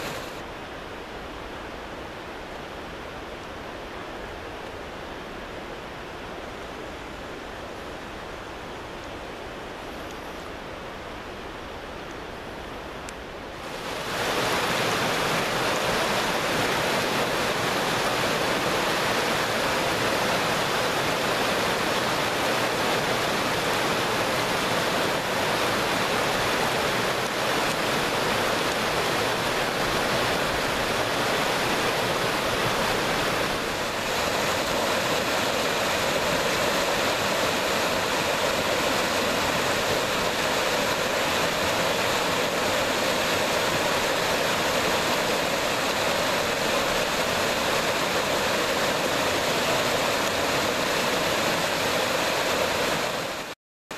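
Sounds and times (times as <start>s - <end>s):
stream rushing over boulders: 0.0s - 53.6s.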